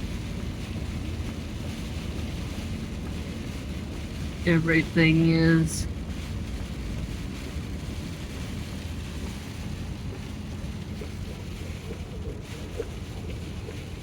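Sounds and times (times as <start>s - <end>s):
heavy rain: 0.0s - 14.0s
wind rumbling on microphone: 0.0s - 14.0s.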